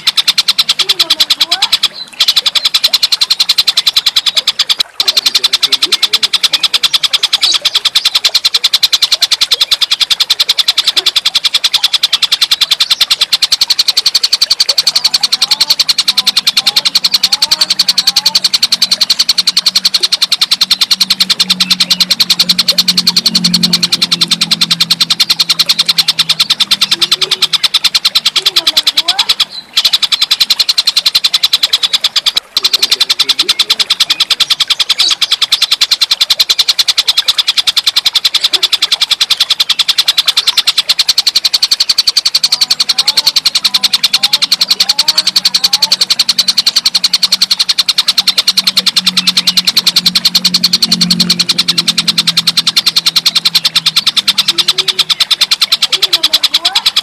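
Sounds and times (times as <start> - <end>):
kingfisher rattling call: 0.0 - 57.0
low hum: 0.0 - 57.0.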